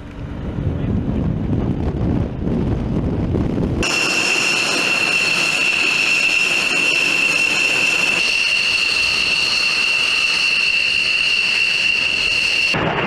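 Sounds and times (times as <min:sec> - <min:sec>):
jet engine turbine whine: 0:00.0 - 0:13.0.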